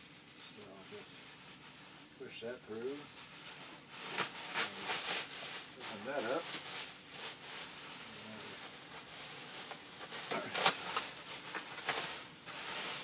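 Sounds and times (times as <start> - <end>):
plastic bag and bubble wrap rustling: 0.0 - 13.0.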